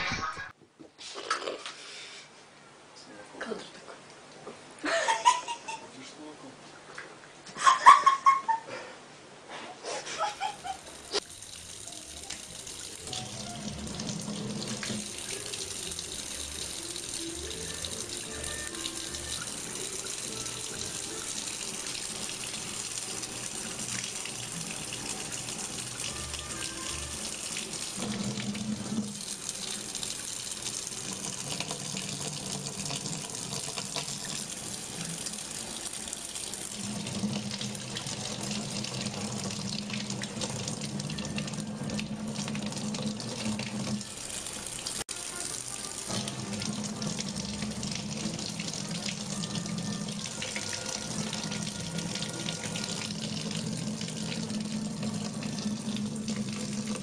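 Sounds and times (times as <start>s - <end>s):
faucet running into sink: 10.4s - 57.0s.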